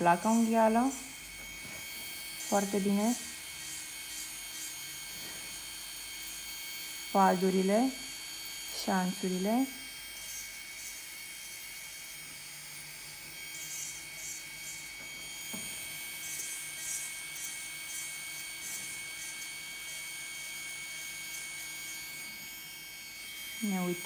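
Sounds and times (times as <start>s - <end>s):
electric nail drill whining: 0.0s - 24.0s.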